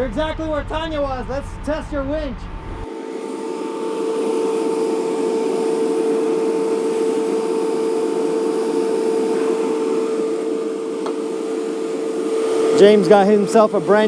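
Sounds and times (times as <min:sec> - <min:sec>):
winch motor whining: 0:02.6 - 0:14.0.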